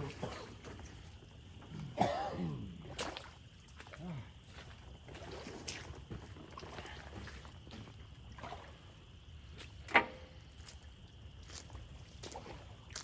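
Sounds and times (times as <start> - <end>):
sloshing and squelching in mud: 0.0 - 13.0.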